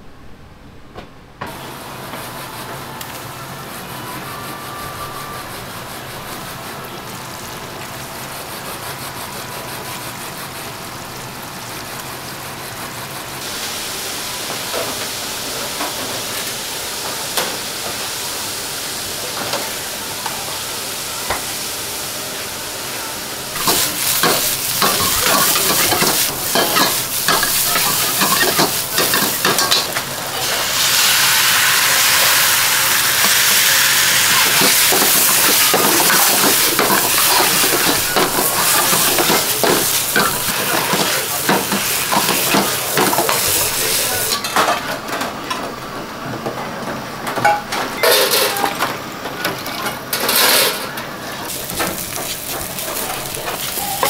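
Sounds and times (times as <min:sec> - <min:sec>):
food sizzling in a wok: 0:01.5 - 0:44.5, 0:51.5 - 0:54.0.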